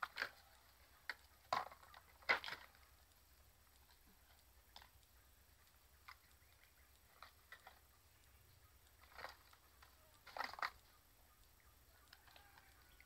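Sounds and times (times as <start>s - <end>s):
faint ticks: 2.2s - 13.0s.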